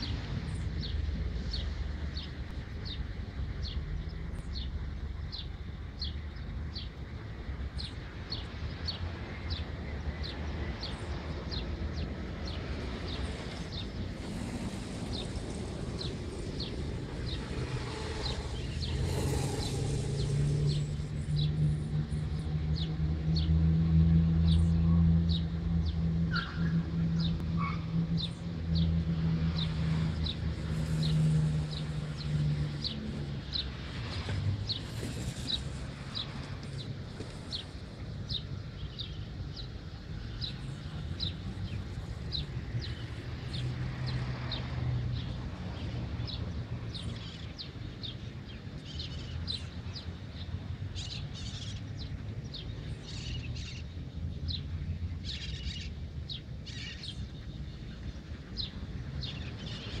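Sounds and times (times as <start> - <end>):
low engine hum: 0.0 - 60.0.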